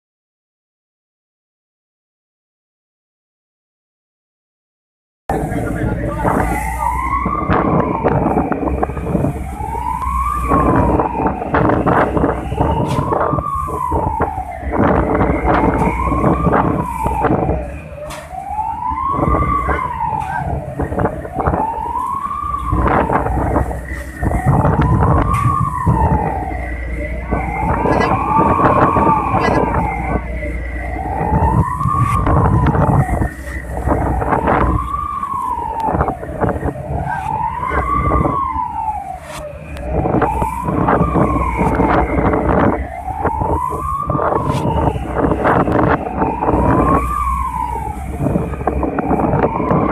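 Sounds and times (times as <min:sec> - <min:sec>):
heavy low rumble with knocks: 0:05.3 - 0:49.9
wailing siren: 0:05.3 - 0:49.9.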